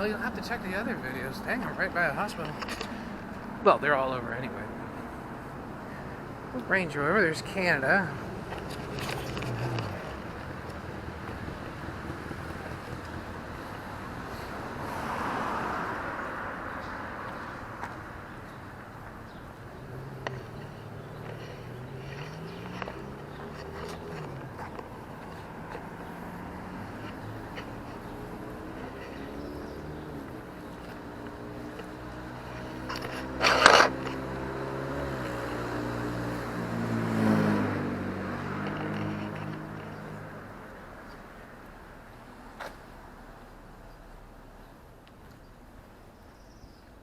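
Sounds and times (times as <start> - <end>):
car passing: 0.0 - 44.6
street traffic: 0.0 - 47.0
low engine hum: 4.2 - 42.2.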